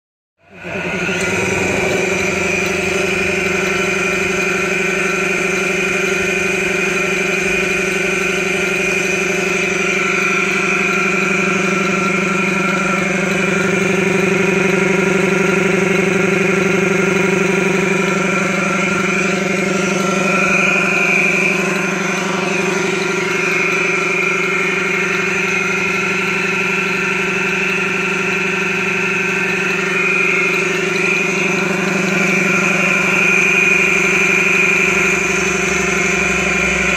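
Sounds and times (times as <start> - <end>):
air compressor running: 0.4 - 36.9.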